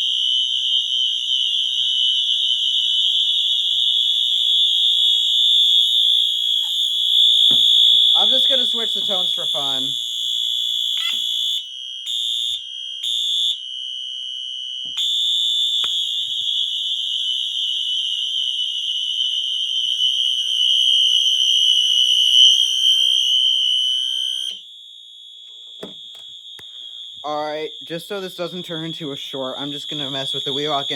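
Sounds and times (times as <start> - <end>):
fire alarm horns: 0.0 - 30.9.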